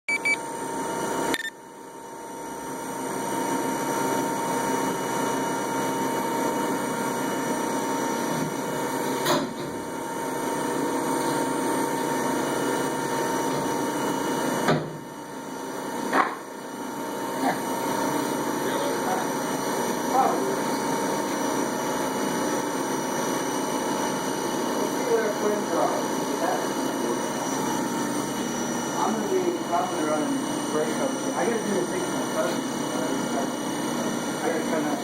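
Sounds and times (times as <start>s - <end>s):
milling machine whining: 0.1s - 35.0s.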